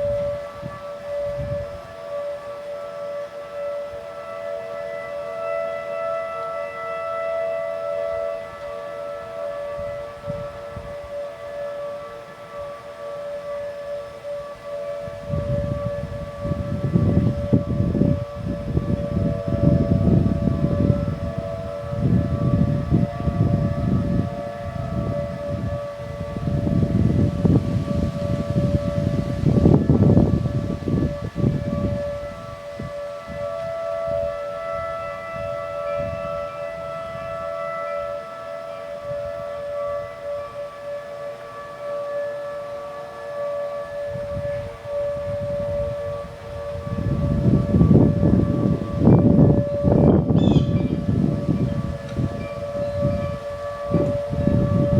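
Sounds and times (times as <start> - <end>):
tornado warning sirens: 0.0 - 54.9.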